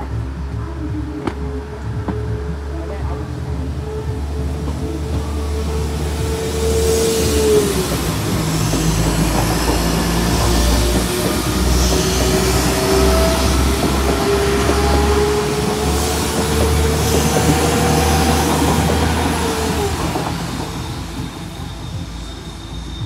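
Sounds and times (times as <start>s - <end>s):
high whine sliding in pitch: 0.0s - 23.0s
train engine and wheel rumble: 0.0s - 23.0s.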